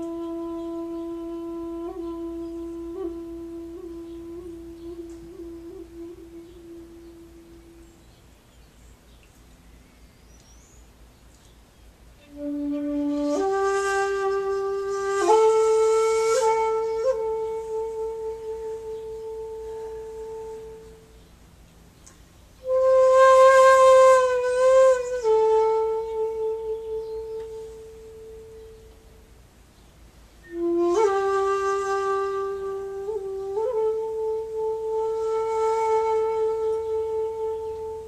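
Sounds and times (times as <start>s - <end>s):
bamboo flute solo: 0.0s - 8.3s, 12.2s - 21.4s, 22.6s - 29.3s, 30.4s - 38.0s.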